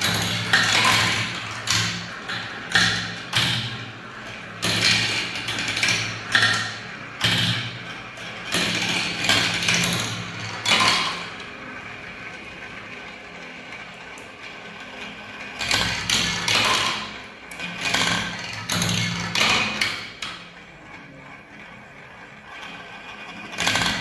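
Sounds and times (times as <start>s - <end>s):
marbles rolling and clattering: 0.0s - 24.0s.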